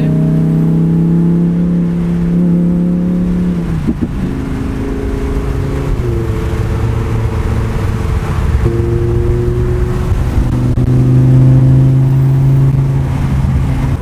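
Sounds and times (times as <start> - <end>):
sports car engine running: 0.0 - 14.0.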